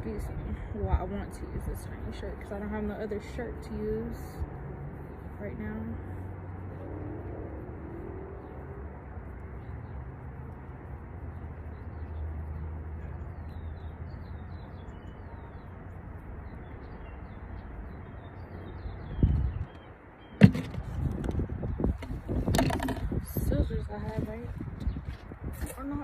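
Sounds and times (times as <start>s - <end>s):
faint birds chirping: 0.0s - 26.0s
low outdoor rumble: 0.0s - 26.0s.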